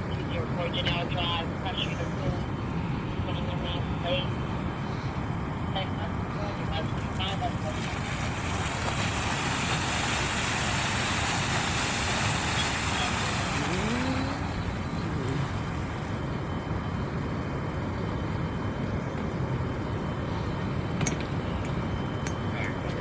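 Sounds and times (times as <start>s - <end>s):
fire engine idling: 0.0s - 23.0s
water rushing from fire hydrant: 3.2s - 23.0s.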